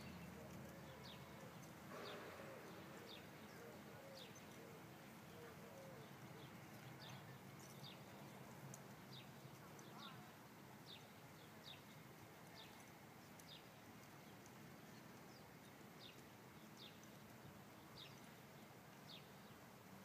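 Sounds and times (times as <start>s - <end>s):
small bird chirping: 0.0s - 18.4s
low outdoor hum: 0.0s - 20.0s.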